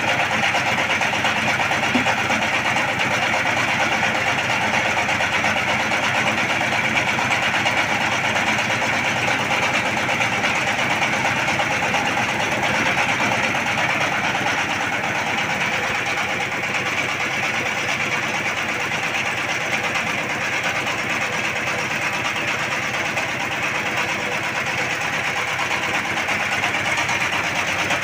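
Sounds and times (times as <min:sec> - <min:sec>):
diesel engine running under load: 0:00.0 - 0:28.0
grain mill rattling: 0:00.0 - 0:28.0.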